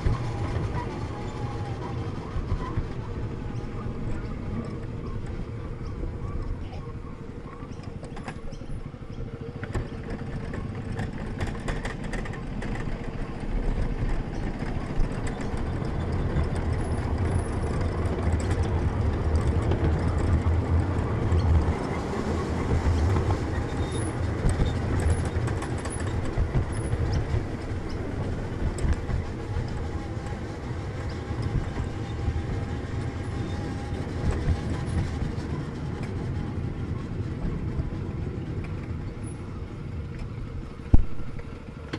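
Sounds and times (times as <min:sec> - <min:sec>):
miniature train wheels rumbling: 0:00.0 - 0:41.9.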